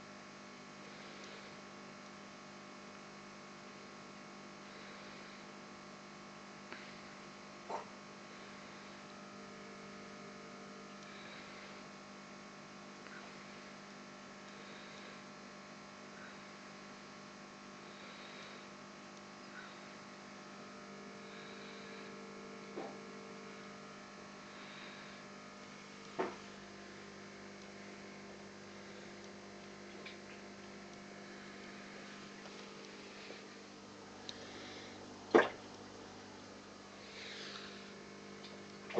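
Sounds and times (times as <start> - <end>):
aquarium equipment humming: 0.0 - 38.9.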